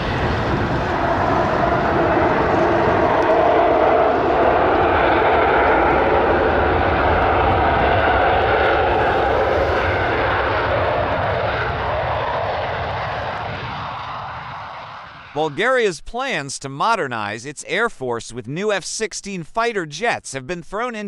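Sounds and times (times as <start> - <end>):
jet engine rushing: 0.0 - 17.4.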